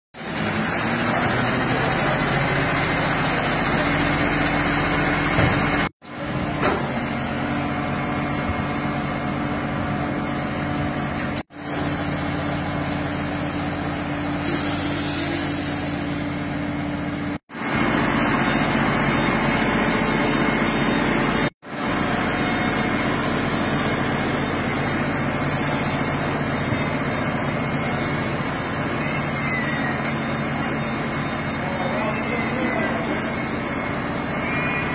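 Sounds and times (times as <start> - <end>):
fire truck engine humming: 0.2 - 34.9.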